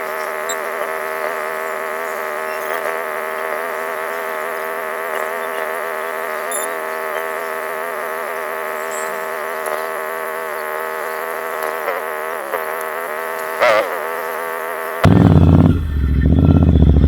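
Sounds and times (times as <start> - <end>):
motorcycle engine drone: 0.0 - 17.0.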